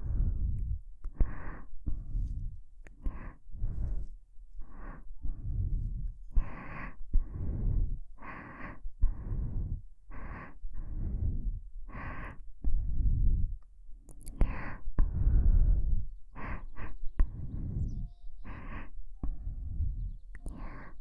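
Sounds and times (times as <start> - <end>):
slow breathing into microphone: 0.0 - 13.7, 14.4 - 21.0.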